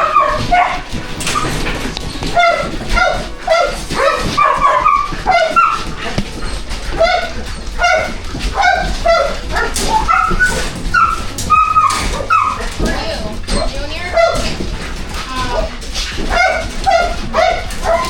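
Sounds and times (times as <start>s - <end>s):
dogs barking and yipping: 0.0s - 18.0s.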